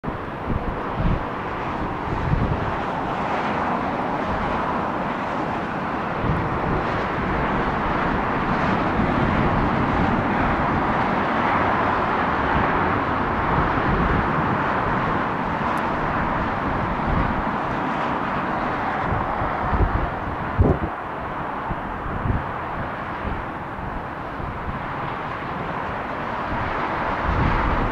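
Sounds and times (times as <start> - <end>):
jet airliner noise: 0.0 - 27.9
wind buffeting microphone: 0.0 - 27.9.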